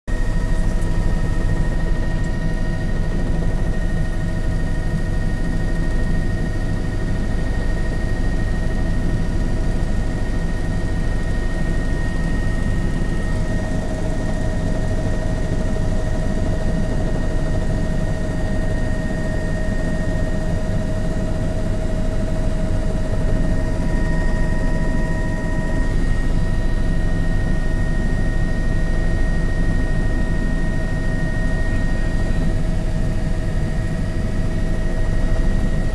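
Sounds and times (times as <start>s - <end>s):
helicopter rotor and engine: 0.1s - 35.9s
high-pitched whine tones: 0.1s - 35.9s.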